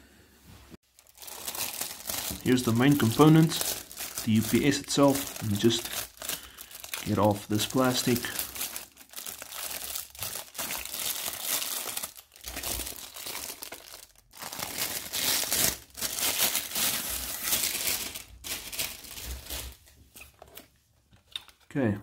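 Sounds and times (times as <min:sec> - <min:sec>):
plastic bag crinkling: 0:00.8 - 0:21.6.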